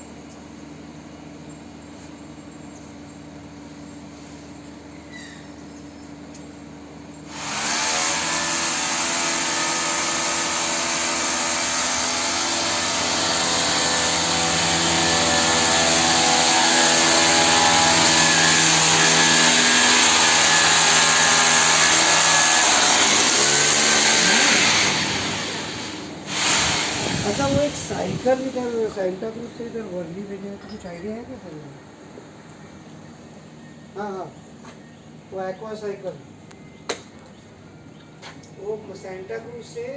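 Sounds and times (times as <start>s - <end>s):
heat pump fan and compressor: 0.0s - 39.9s.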